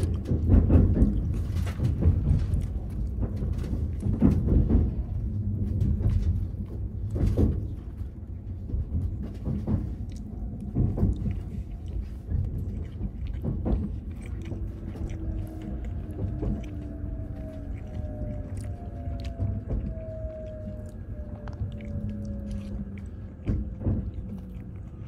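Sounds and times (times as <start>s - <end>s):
train rumble from inside: 0.0s - 25.0s.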